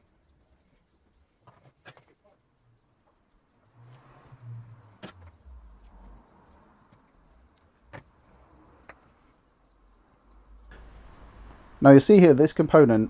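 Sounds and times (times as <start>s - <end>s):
faint low hum: 2.2s - 13.0s.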